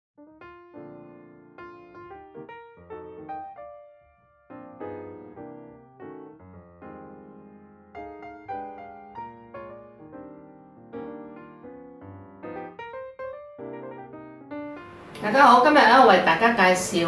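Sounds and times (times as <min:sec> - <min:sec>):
piano melody over chords: 0:00.2 - 0:17.0.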